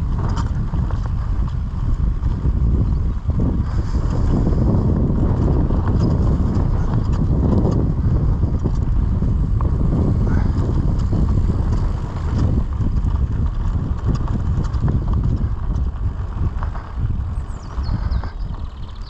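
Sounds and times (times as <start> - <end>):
bike clicks and rattles: 0.0 - 19.0
bike tyre noise on dirt: 0.0 - 19.0
wind buffeting microphone: 0.0 - 19.0.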